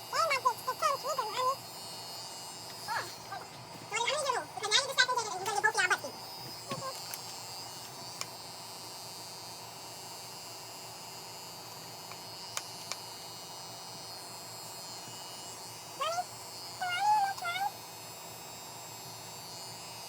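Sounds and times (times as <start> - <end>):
electric hair clippers buzzing: 0.0 - 20.0.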